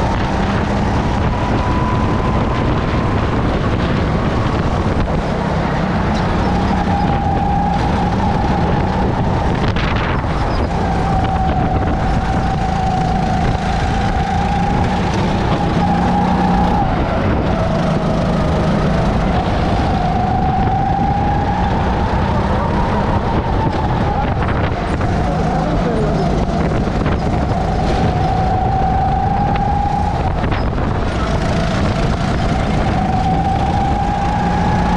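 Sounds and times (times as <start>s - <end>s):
kart engine revving: 0.0s - 34.9s.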